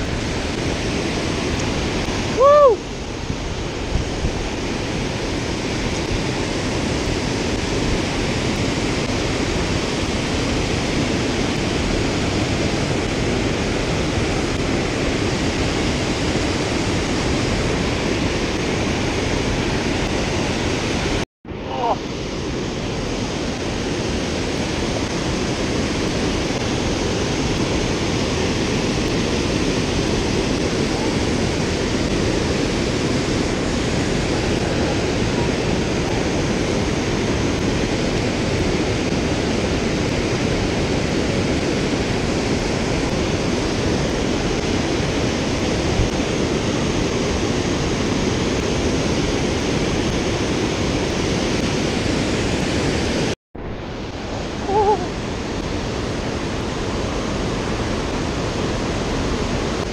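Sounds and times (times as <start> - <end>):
waterfall rushing over rock: 0.0 - 53.4, 54.0 - 59.9.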